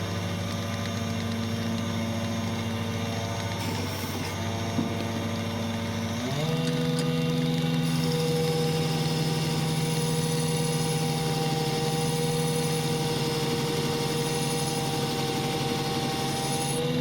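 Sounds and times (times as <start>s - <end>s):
belt grinder motor hum and whine: 0.0s - 17.0s.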